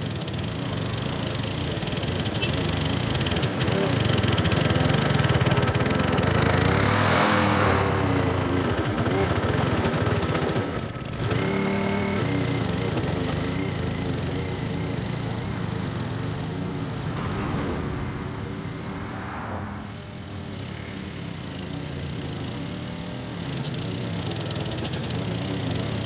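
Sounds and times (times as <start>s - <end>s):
lawn mower engine cutting grass: 0.0s - 17.1s, 20.4s - 26.0s.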